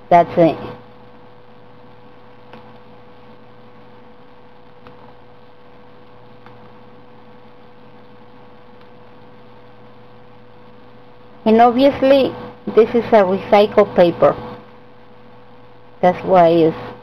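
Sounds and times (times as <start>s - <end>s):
constant tone: 0.0s - 17.0s
low hum and hiss: 0.0s - 17.0s.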